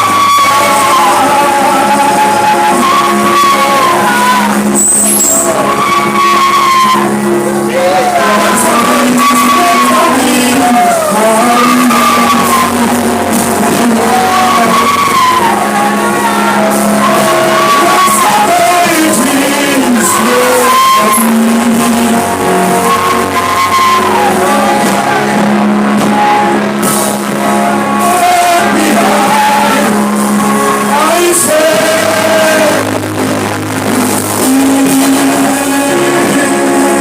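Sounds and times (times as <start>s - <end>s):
sustained instrumental chords: 0.0s - 37.0s
voices singing: 0.0s - 37.0s.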